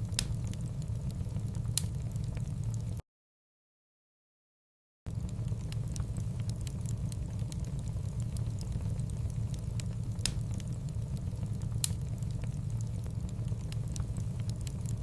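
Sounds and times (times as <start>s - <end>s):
fire crackling: 0.0s - 3.0s, 5.1s - 15.0s
fire flames rumbling: 0.0s - 3.0s, 5.1s - 15.0s.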